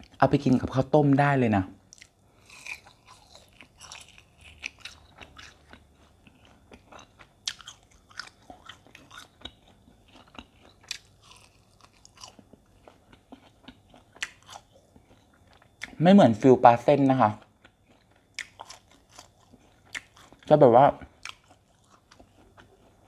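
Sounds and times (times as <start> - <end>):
person chewing food: 1.8 - 16.0, 17.3 - 23.0.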